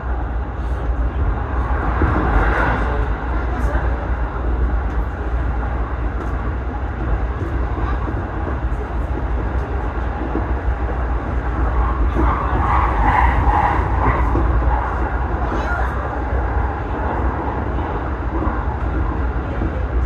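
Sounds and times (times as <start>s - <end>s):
train carriage rumble: 0.0s - 20.0s.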